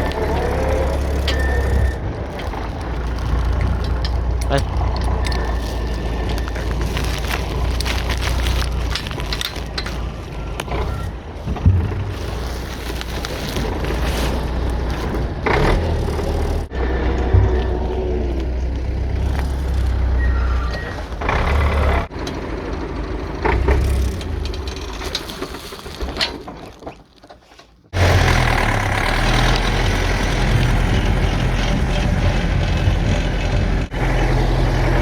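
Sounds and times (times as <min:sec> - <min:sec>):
machinery clanks and knocks: 0:00.0 - 0:25.3, 0:28.0 - 0:35.0
farm machinery engine hum: 0:00.0 - 0:25.8, 0:28.0 - 0:35.0.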